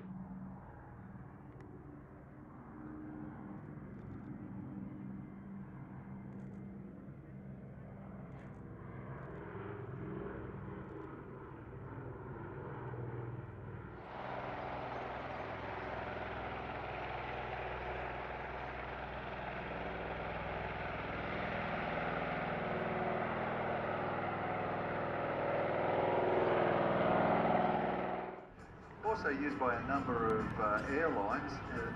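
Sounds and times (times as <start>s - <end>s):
propeller plane engines droning: 0.0s - 31.9s.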